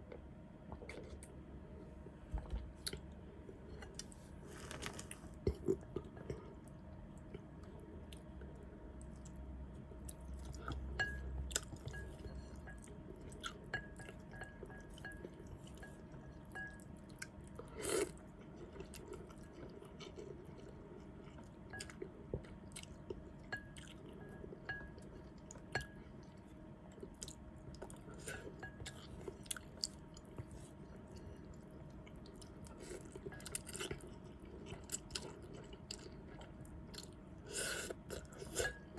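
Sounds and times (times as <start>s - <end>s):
person chewing noodle soup: 2.4s - 38.9s.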